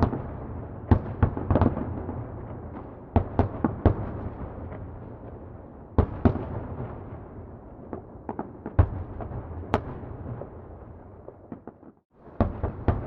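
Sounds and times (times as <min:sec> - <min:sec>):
distant fireworks bangs: 0:00.0 - 0:13.0.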